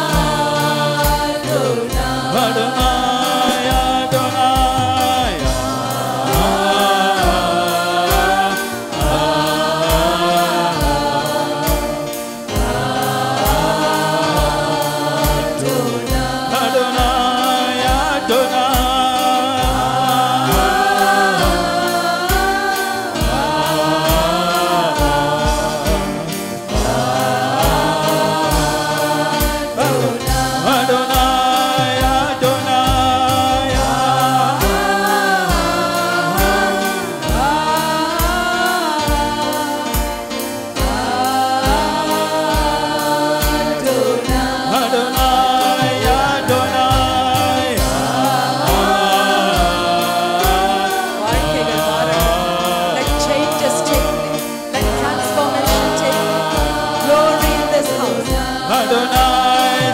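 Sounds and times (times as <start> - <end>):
man singing into a microphone: 0.0 - 12.0, 12.6 - 40.2, 40.8 - 59.9
keyboard chords: 0.0 - 59.9
steady drum beat: 0.0 - 59.9.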